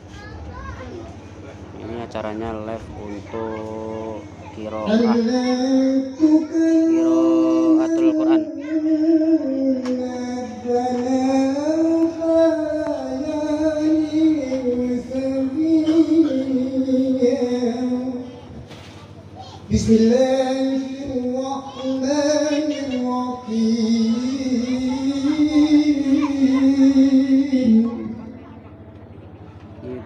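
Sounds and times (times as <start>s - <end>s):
man chanting recitation over pa: 1.8s - 18.4s, 19.7s - 28.4s.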